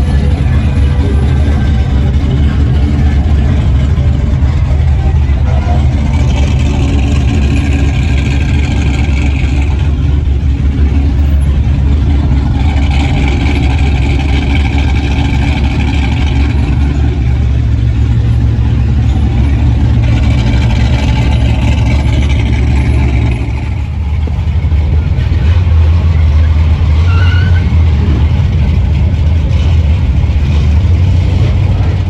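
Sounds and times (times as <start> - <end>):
car engine low rumble: 0.0 - 32.0.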